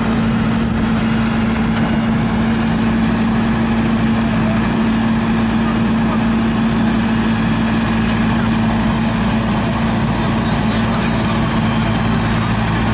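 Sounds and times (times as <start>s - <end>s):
loader engine running: 0.0s - 12.9s.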